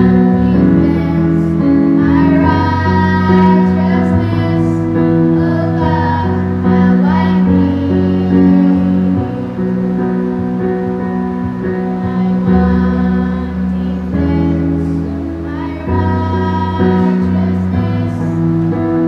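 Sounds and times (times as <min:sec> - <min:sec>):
boy and girl singing: 0:00.0 - 0:10.0, 0:11.8 - 0:18.8
instrumental accompaniment: 0:00.0 - 0:19.0.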